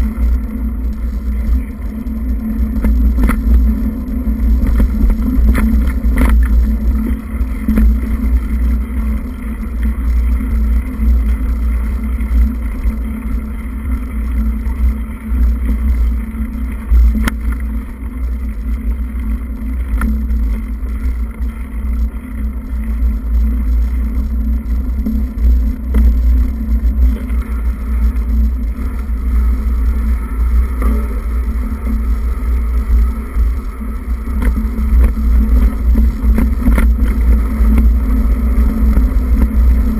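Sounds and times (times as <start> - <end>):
constant hum: 0.0 - 39.9
wind buffeting microphone: 0.0 - 39.9.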